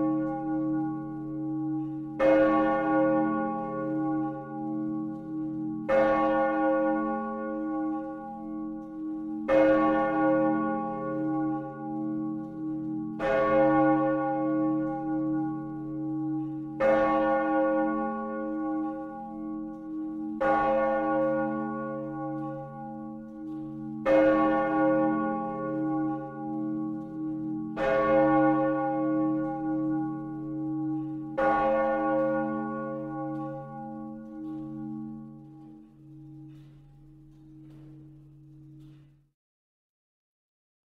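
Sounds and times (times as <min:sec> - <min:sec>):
church bell tolling: 0:00.0 - 0:39.2.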